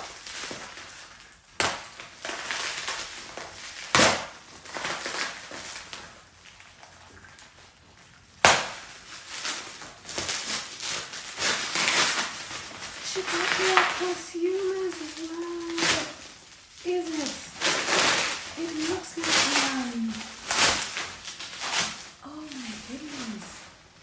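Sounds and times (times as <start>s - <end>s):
loud packaging crackles: 0.0s - 24.0s
packaging rustling: 0.0s - 24.0s.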